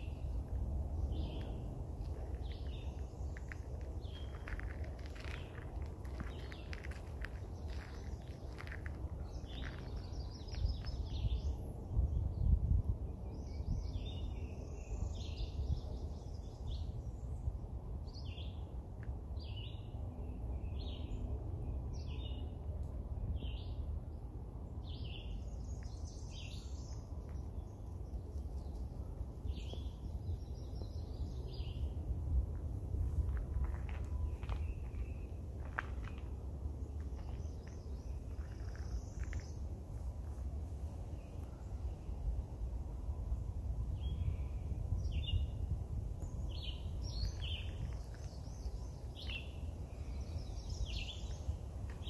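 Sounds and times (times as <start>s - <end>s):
low steady rumble: 0.0s - 52.0s
songbirds singing and chirping: 0.0s - 52.0s.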